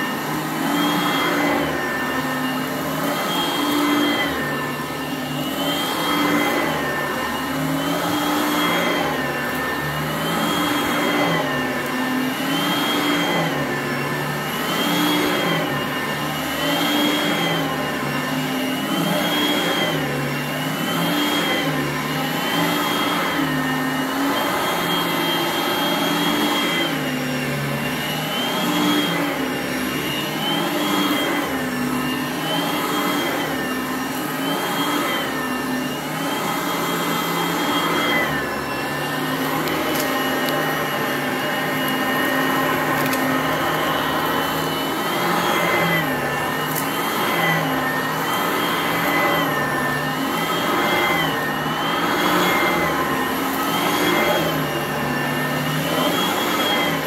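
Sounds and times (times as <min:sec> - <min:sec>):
vacuum cleaner running over carpet: 0:00.0 - 0:57.0.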